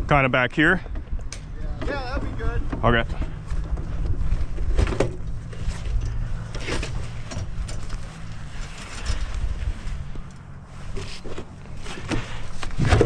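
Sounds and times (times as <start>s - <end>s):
low steady hum: 0.0s - 13.0s
wind rumbling on microphone: 0.8s - 13.0s.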